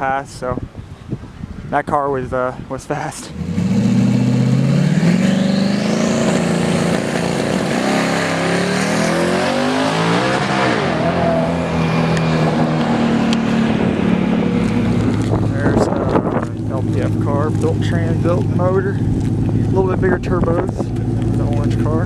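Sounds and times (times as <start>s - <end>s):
drag car engines revving: 3.3s - 22.0s.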